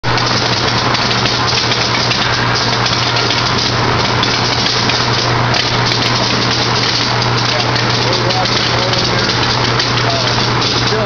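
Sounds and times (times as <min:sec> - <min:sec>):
sorting machine humming and rushing: 0:00.0 - 0:11.0
fine ticking: 0:00.1 - 0:11.0.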